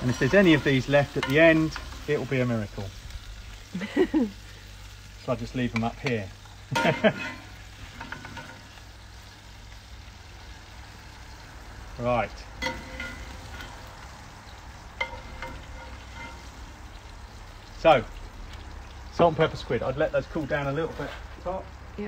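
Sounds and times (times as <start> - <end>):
deep-frying sizzle in oil: 0.0 - 22.0.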